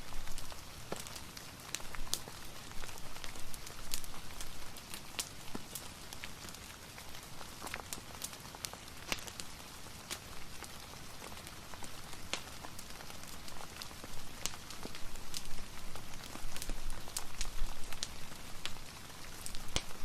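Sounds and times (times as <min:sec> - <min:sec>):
rain hiss: 0:00.0 - 0:20.0
wood fire crackling and popping: 0:00.0 - 0:20.0.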